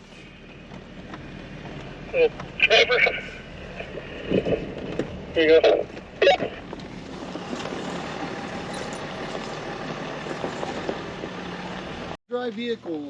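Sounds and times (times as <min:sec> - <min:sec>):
driving noise: 0:00.0 - 0:13.0
vehicle engine humming: 0:00.0 - 0:13.0.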